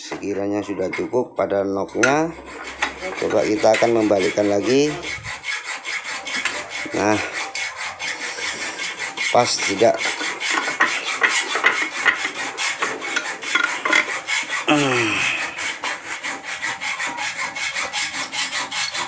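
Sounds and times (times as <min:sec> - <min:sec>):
rapid rasping strokes: 0:01.9 - 0:19.0.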